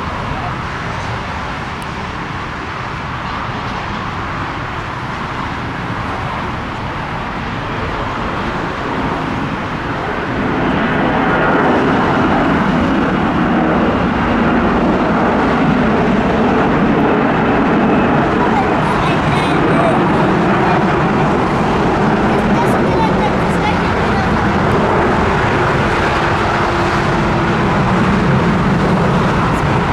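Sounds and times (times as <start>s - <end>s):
jet engines roaring: 0.0s - 29.9s.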